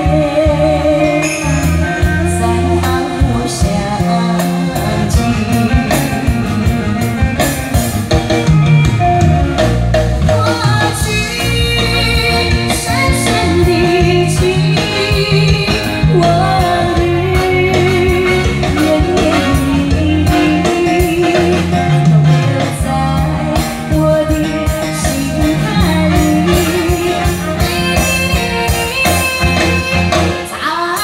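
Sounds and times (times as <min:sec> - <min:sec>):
woman singing pop ballad: 0:00.0 - 0:07.3, 0:10.2 - 0:31.0
backing music with guitar and drums: 0:00.0 - 0:31.0.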